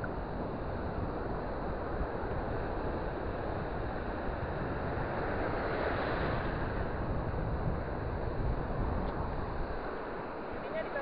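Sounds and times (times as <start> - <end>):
surf breaking in shallows: 0.0 - 11.0
wind on microphone: 0.0 - 11.0.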